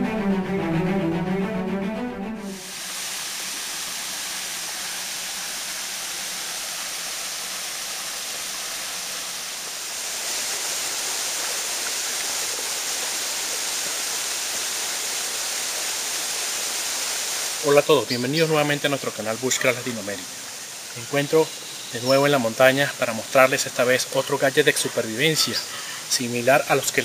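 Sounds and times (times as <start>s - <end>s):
waterfall rushing into pool: 2.6s - 27.0s.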